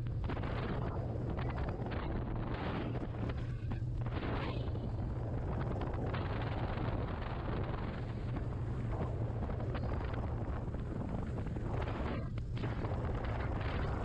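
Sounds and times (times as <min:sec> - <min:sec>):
boat motor humming: 0:00.0 - 0:14.0
wind buffeting microphone: 0:00.0 - 0:14.0.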